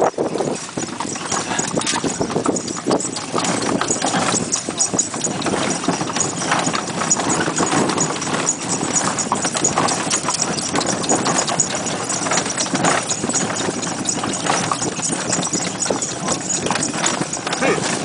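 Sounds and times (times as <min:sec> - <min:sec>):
cart rattling: 0:00.0 - 0:18.0
hooves clip-clopping on dirt: 0:00.0 - 0:18.0.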